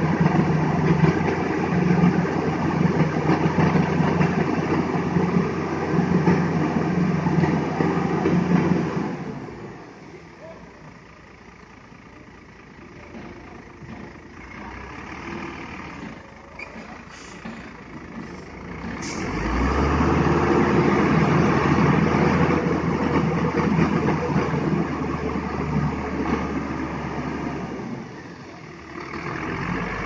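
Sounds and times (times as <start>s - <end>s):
diesel truck engine revving: 0.0s - 10.1s, 13.8s - 30.0s.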